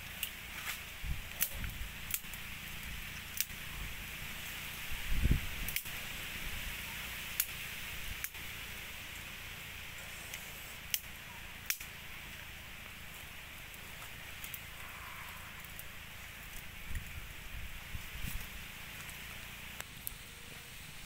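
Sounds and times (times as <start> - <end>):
burning sticks crackling: 0.0 - 21.0
wood fire hissing: 0.0 - 21.0.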